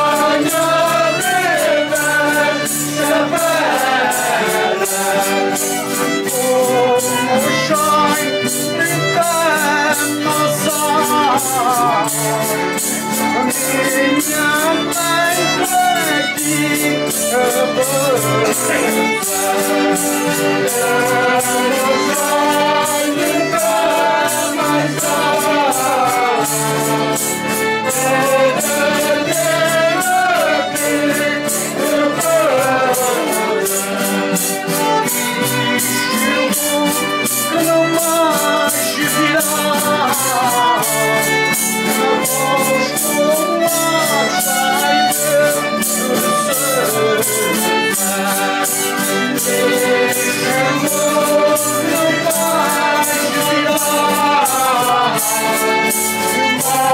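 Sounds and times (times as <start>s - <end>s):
group singing folk song: 0.0s - 56.9s
instrumental accompaniment: 0.0s - 56.9s
percussion beat: 0.0s - 56.9s.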